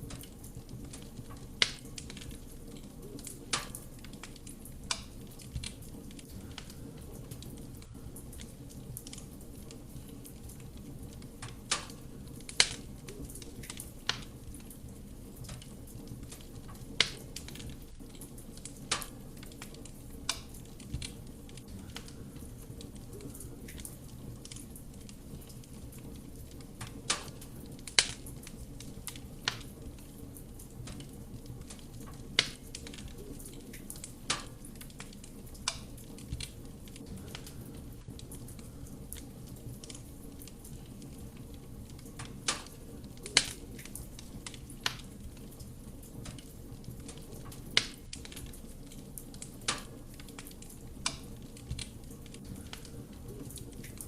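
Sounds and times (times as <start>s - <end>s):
burning wood crackling and popping: 0.0s - 54.0s
low rumble of flame: 0.0s - 54.0s.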